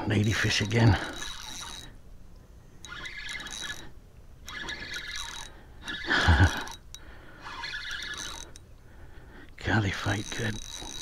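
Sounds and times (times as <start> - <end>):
spinning reel cranking: 0.0 - 2.0, 2.8 - 8.7, 9.9 - 11.0.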